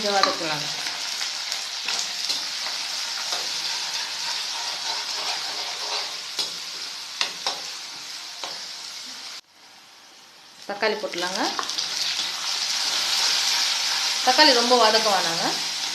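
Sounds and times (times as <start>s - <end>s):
onions sizzling in hot oil: 0.0s - 15.9s.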